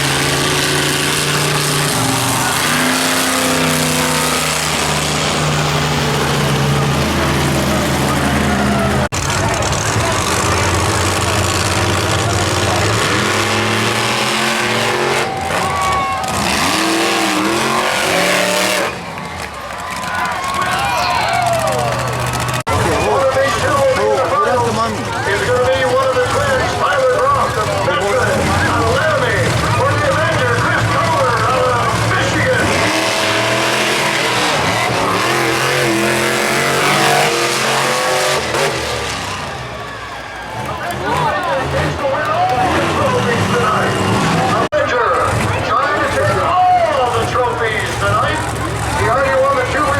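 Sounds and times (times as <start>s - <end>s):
monster truck engines revving: 0.0s - 49.9s.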